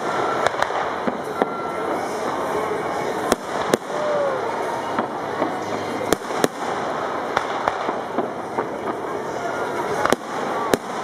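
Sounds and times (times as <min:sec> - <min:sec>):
fireworks bursting: 0:00.0 - 0:11.0
steady background noise: 0:00.0 - 0:11.0.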